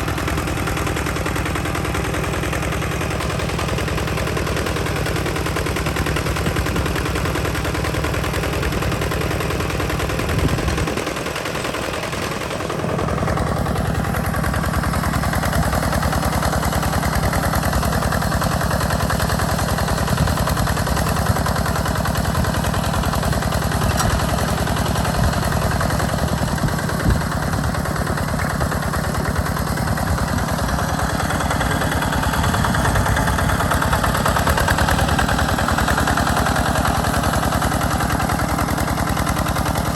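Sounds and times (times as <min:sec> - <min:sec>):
diesel engine chugging under load: 0:00.0 - 0:39.9.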